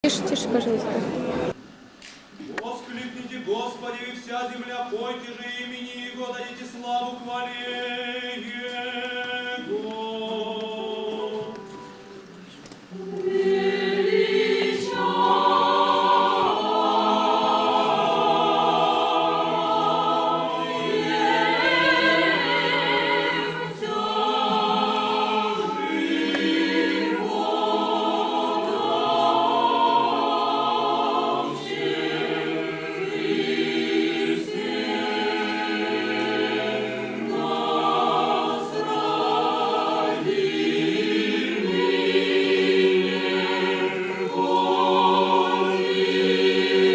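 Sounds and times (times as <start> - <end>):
choir singing a hymn: 3.4 - 12.2, 12.9 - 46.9.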